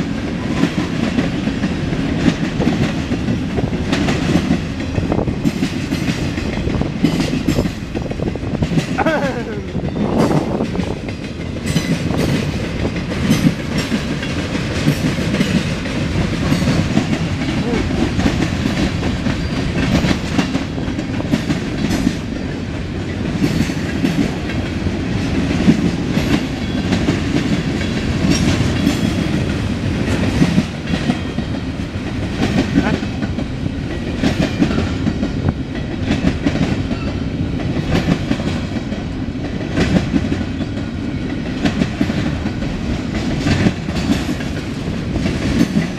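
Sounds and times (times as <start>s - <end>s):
wheels clacking over rail joints: 0.0s - 9.1s, 9.8s - 45.9s
freight train rumbling past: 0.0s - 45.9s.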